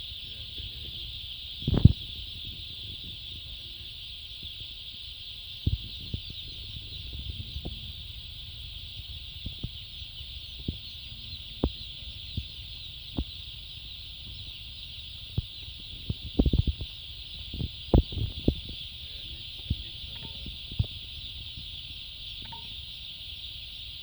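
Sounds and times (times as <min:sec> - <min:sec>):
chickens chirping: 0:00.0 - 0:24.0.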